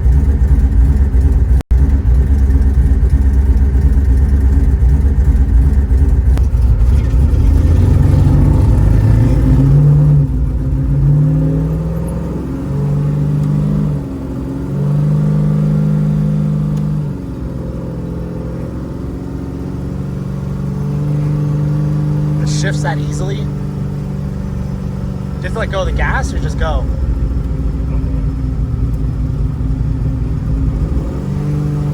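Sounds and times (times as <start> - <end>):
car engine under load: 0.0 - 31.9.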